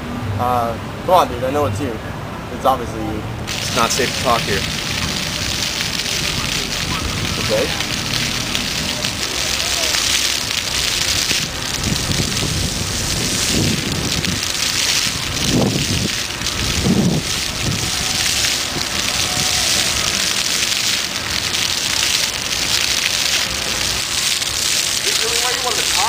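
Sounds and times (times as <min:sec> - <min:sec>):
fountain jets spraying water: 0:02.6 - 0:26.0
water splattering on paving: 0:03.5 - 0:26.0.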